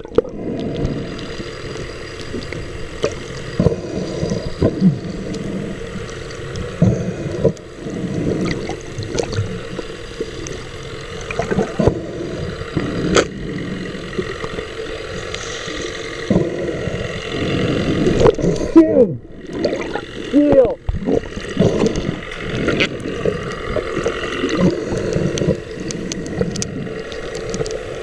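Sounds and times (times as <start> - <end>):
faint steady hum: 0.0 - 28.0
muffled underwater wash: 0.0 - 28.0.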